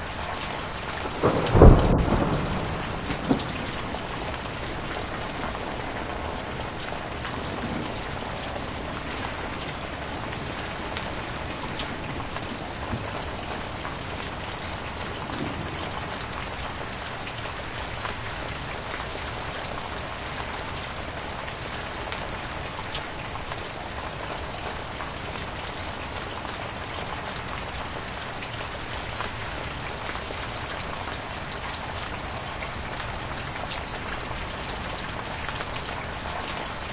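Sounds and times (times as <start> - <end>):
heavy rain: 0.0 - 36.9
raindrops ticking on surface: 0.0 - 36.9.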